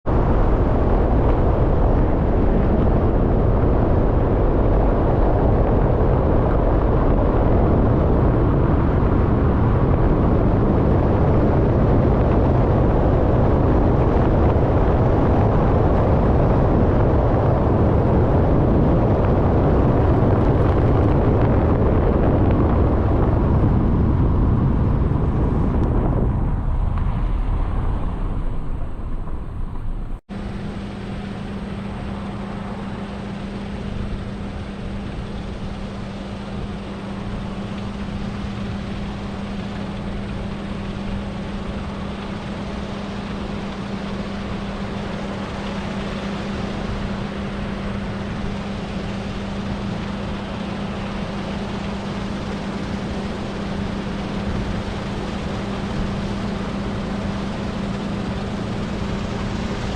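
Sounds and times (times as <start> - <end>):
diesel farm machinery engine drone: 0.0 - 59.9.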